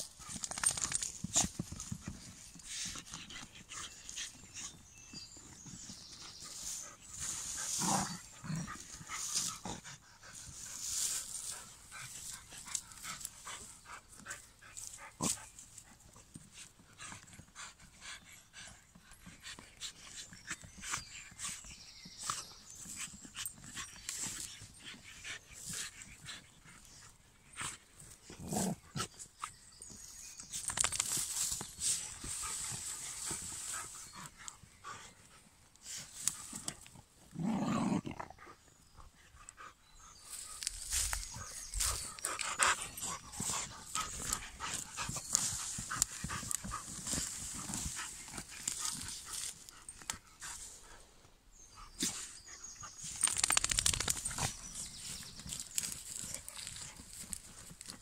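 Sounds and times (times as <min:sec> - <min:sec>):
paws scratching earth: 0:00.0 - 0:58.0.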